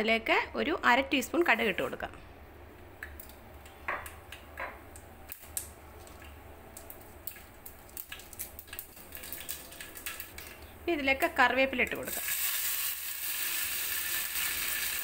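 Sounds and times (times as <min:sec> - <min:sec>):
seeds sizzling and popping in oil: 0:03.0 - 0:15.0.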